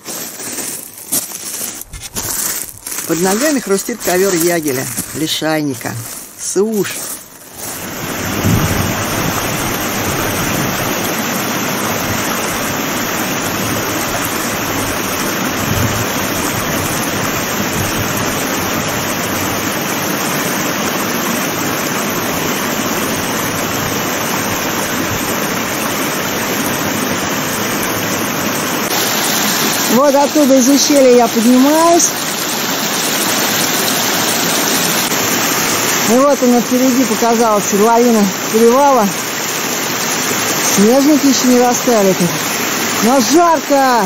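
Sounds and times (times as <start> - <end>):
waterfall rushing over rocks: 2.3 - 44.0.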